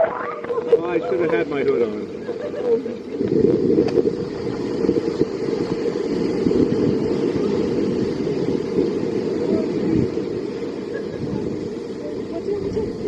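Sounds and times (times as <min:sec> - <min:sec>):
rushing water rumble: 0:00.0 - 0:13.0
wind buffeting microphone: 0:00.0 - 0:13.0.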